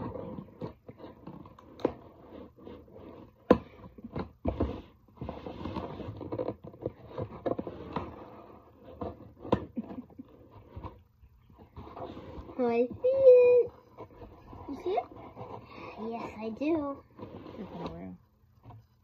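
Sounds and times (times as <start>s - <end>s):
tool scraping cardboard box: 0.0s - 19.0s.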